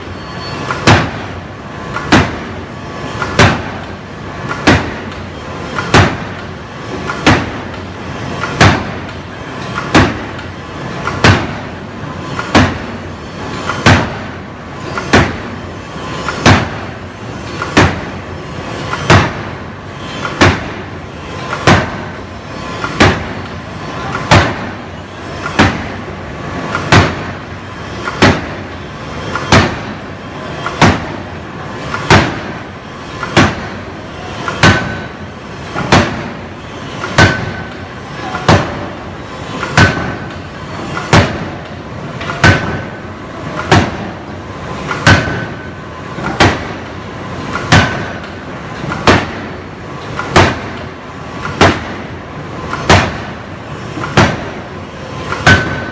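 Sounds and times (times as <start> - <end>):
forging hammer striking metal: 0.1 - 26.1, 26.7 - 33.8, 34.4 - 43.0, 44.9 - 49.6, 55.3 - 55.9.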